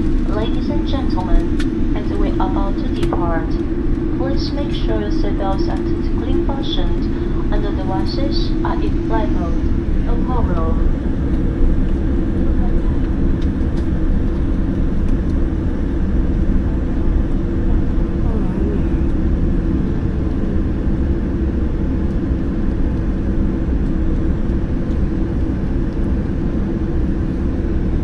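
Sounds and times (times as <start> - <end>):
airliner engine rumble in cabin: 0.0 - 28.0.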